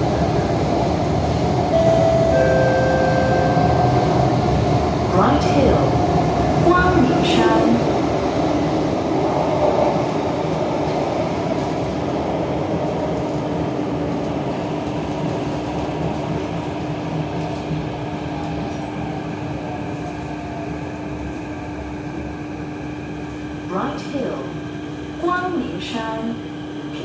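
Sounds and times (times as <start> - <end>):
wheels rumbling on rail: 0.0 - 24.4
metro train running in tunnel: 0.0 - 27.0.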